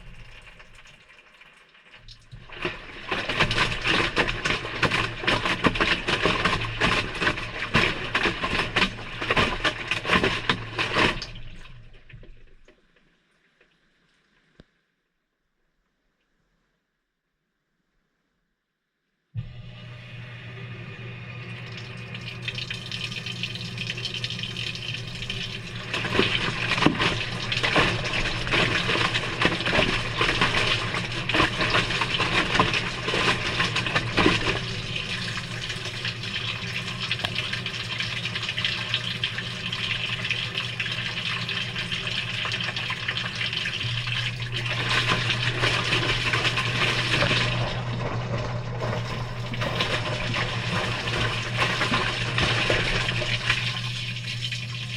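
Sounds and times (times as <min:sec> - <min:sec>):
water rushing into washing machine: 0:00.0 - 0:13.2, 0:19.4 - 0:54.9.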